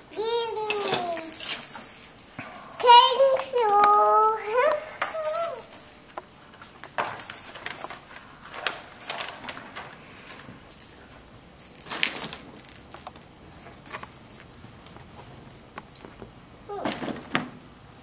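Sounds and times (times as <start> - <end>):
small bells jingling: 0.0 - 15.8.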